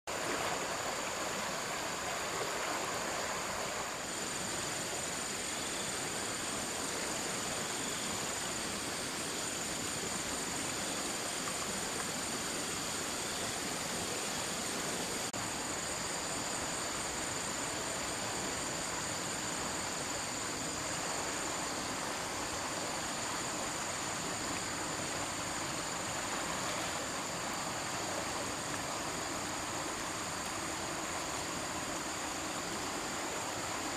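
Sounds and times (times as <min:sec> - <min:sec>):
stream water rushing: 0:00.1 - 0:33.9.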